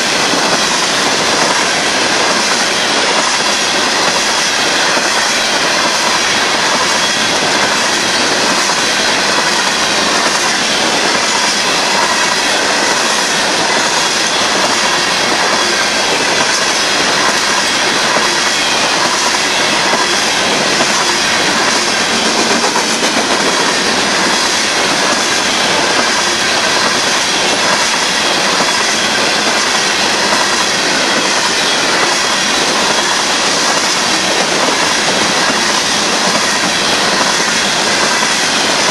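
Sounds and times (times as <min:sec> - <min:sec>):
steel wheels rolling on rail: 0:00.0 - 0:38.9.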